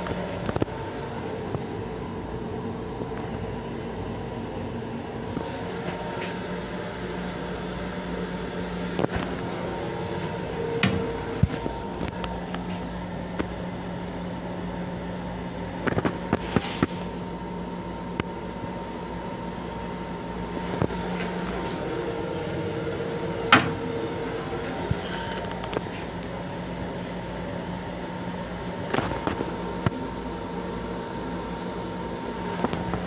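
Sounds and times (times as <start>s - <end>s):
railcar hum: 0.0s - 33.0s.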